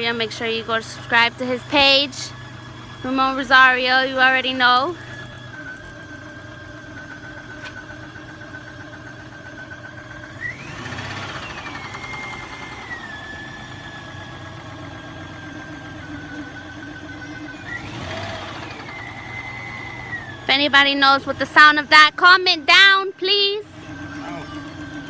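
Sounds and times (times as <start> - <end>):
engine revving: 0.0 - 8.8, 10.0 - 25.0
car engine knocking: 0.0 - 25.0
steady engine whine: 0.0 - 25.0.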